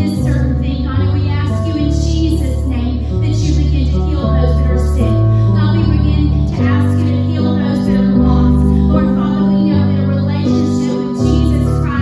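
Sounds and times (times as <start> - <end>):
electric bass notes: 0.0 - 12.0
woman singing into a microphone: 0.0 - 12.0.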